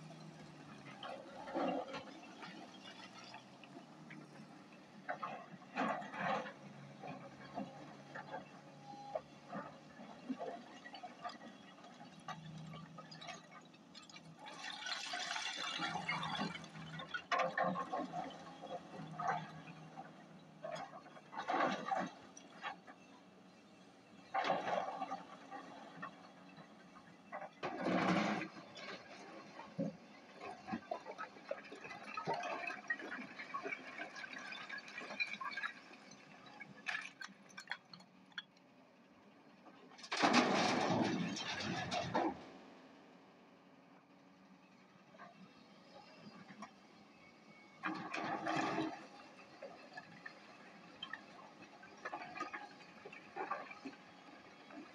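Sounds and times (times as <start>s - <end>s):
excavator bucket digging rock: 0.1s - 23.1s, 24.2s - 26.6s, 27.2s - 38.5s, 40.0s - 42.6s, 47.8s - 54.9s.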